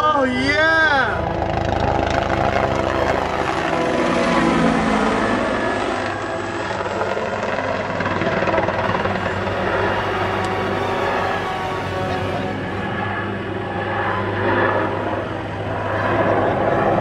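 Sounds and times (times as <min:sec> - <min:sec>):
helicopter rotor beating: 0:00.0 - 0:17.0.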